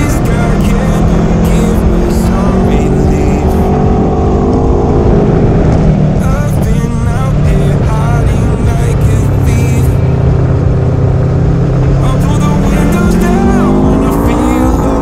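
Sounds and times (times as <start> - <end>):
motorcycle engine running hard: 0.0 - 15.0
music with singing: 0.0 - 15.0.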